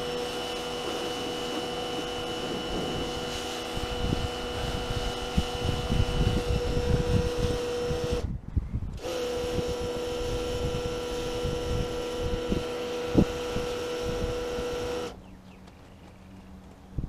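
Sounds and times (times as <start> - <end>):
scrubber motor hum: 0.0 - 8.3, 8.9 - 15.2.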